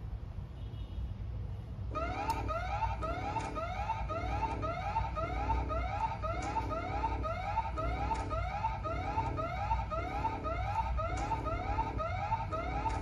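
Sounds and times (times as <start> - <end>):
steady low hum: 1.8 - 13.0
electronic fire alarm siren: 1.9 - 13.0.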